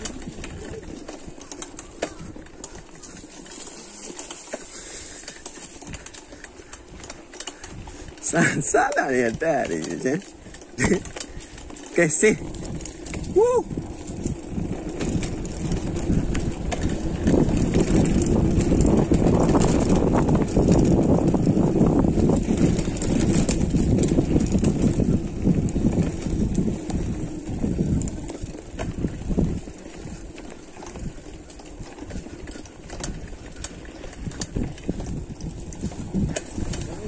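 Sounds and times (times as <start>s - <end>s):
bike clicks and rattles: 0.0s - 37.0s
bike tyres rumbling on dirt: 0.0s - 37.0s.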